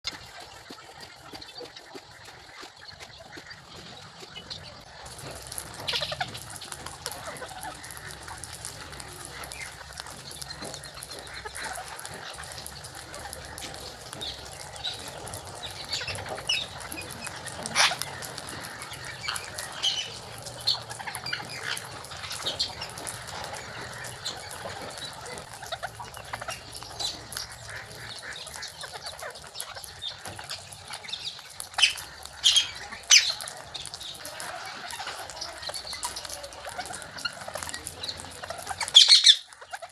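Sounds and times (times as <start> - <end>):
parakeets squawking: 0.1 - 39.9.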